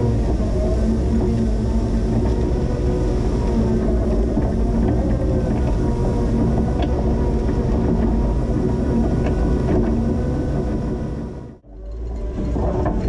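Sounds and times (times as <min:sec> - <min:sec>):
drive whine: 0:00.0 - 0:13.0
forklift engine rumble: 0:00.0 - 0:13.0.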